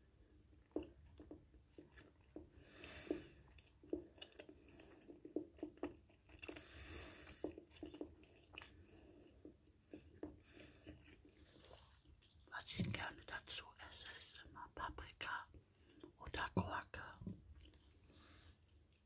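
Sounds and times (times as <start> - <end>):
chewing crunchy toast: 0.0 - 14.5, 15.3 - 17.9.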